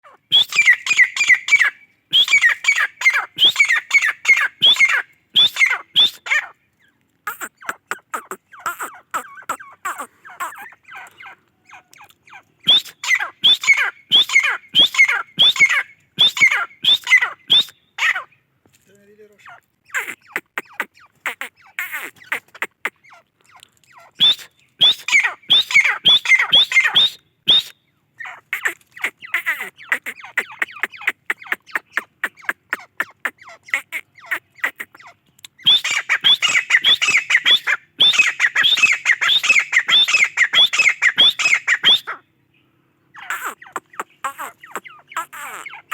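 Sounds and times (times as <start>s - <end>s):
francolin calling: 0.0s - 6.6s, 7.3s - 18.4s, 19.4s - 42.2s, 43.1s - 45.9s.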